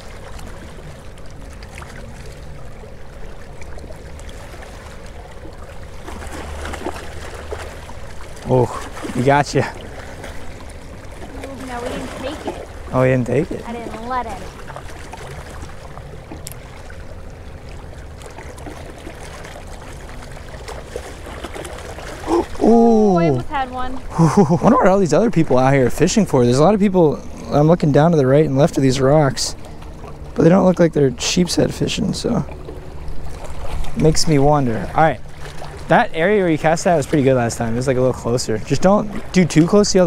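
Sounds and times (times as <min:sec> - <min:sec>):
waves lapping against rocks: 0:00.0 - 0:24.2, 0:24.8 - 0:40.0
faint steady hum: 0:00.0 - 0:40.0.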